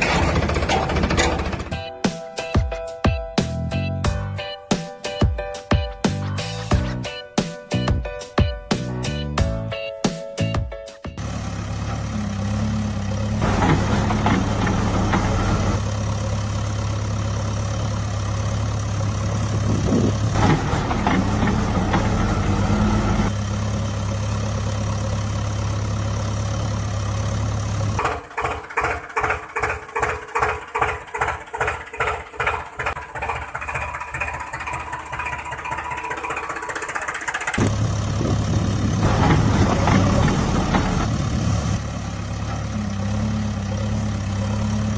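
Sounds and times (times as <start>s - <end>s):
diesel engine running: 0.0s - 44.9s
pulsing engine beat: 0.0s - 44.9s.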